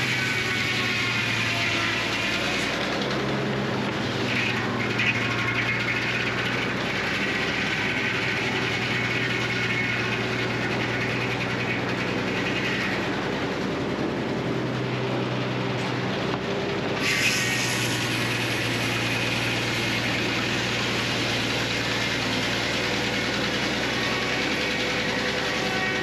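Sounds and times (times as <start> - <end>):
low machinery hum: 0.0 - 26.0
sawmill cutting log: 0.0 - 26.0.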